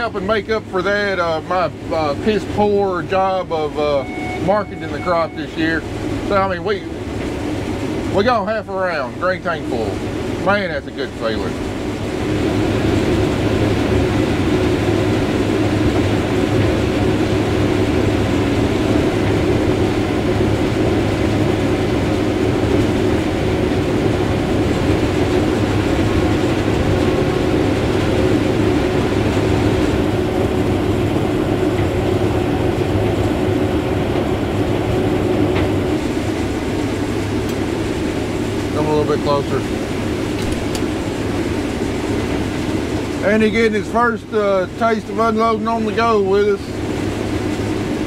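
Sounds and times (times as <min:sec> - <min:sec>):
combine harvester engine hum: 0:00.0 - 0:48.0.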